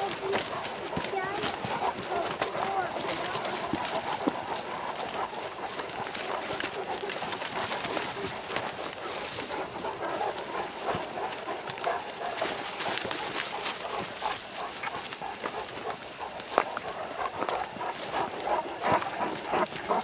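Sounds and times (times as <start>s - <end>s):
footsteps on leaves and brush: 0.0s - 20.0s.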